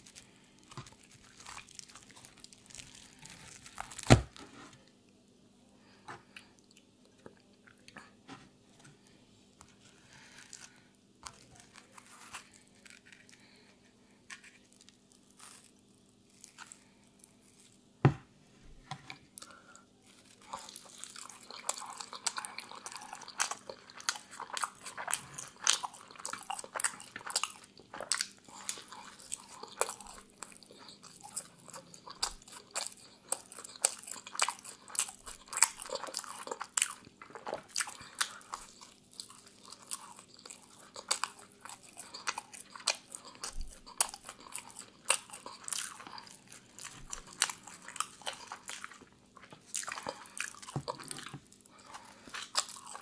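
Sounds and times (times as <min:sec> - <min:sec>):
chewing crunchy pizza: 0:00.0 - 0:04.2, 0:09.0 - 0:17.8, 0:19.3 - 0:53.0.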